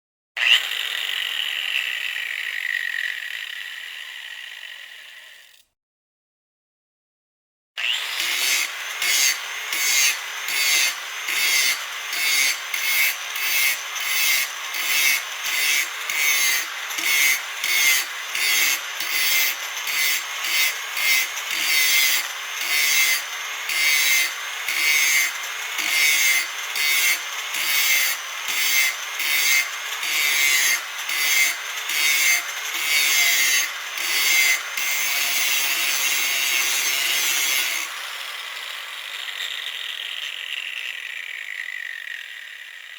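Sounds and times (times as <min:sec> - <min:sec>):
grinder rasping: 0:00.4 - 0:05.7, 0:07.8 - 0:42.9.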